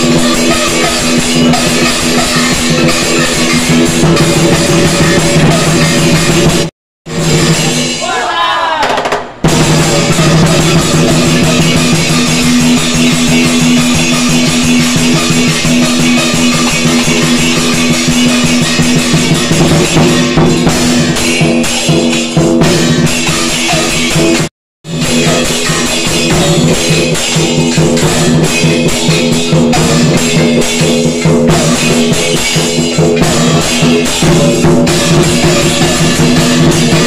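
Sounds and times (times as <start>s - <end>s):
music with heavy drumming: 0.0s - 37.0s.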